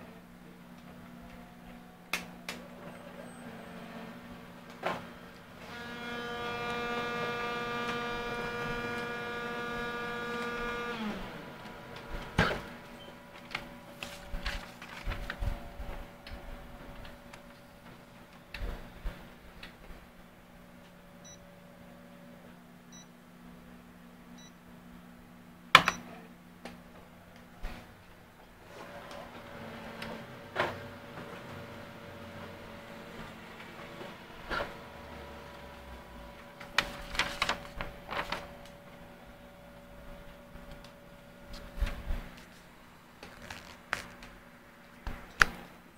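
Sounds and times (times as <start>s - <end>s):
copier humming: 0.0s - 45.9s.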